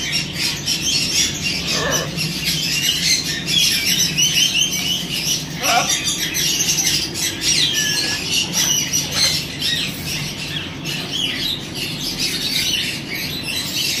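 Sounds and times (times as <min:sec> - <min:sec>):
steady low hum: 0:00.0 - 0:13.9
parrots squawking and chattering: 0:00.0 - 0:14.0.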